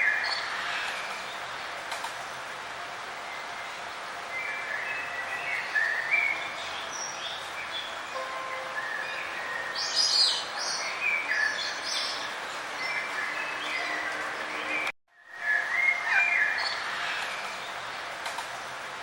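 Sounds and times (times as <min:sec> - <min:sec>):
steady background hiss: 0:00.0 - 0:14.6, 0:15.2 - 0:19.0
songbirds chirping and trilling: 0:00.0 - 0:19.0.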